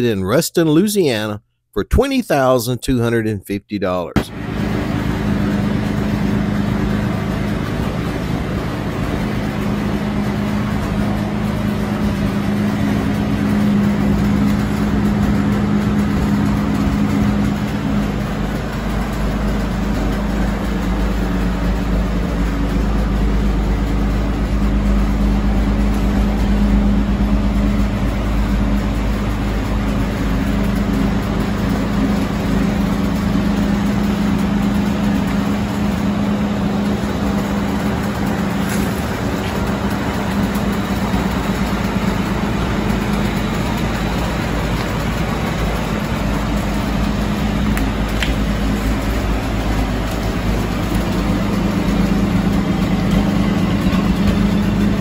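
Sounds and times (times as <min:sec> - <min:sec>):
car engine idling: 0:04.2 - 0:55.0.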